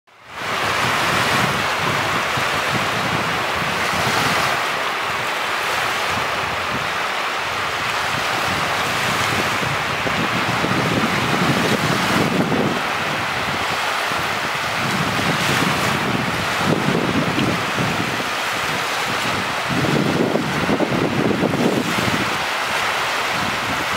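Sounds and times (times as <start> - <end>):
lake waves washing on shore: 0.1 - 23.9
wind rumbling on microphone: 0.2 - 23.9.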